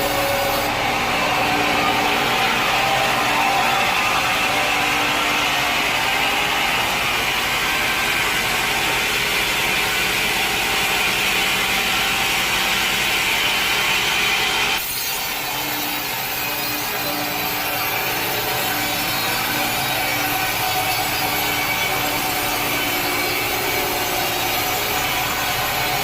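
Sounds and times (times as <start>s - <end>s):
saw blade cutting log: 0.0s - 26.0s.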